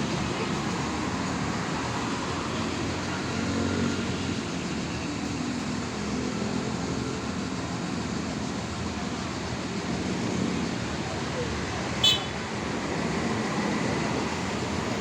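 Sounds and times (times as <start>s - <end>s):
traffic noise: 0.0s - 15.0s.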